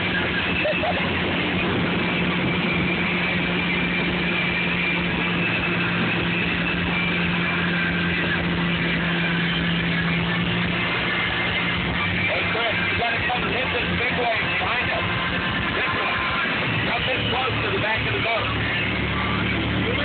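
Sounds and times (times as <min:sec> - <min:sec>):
churning boat wake: 0:00.0 - 0:20.0
motorboat engine humming: 0:00.0 - 0:20.0
wind on microphone: 0:00.0 - 0:20.0.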